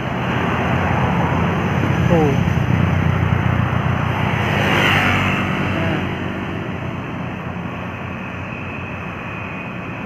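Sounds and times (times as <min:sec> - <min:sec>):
bus passing: 0:00.0 - 0:10.0.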